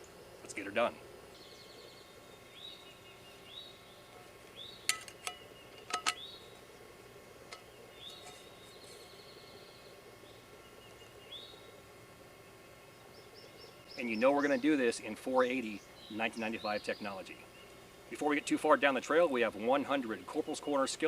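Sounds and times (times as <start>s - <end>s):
birds chirping: 0.0s - 21.0s
faint outdoor background: 0.0s - 21.0s.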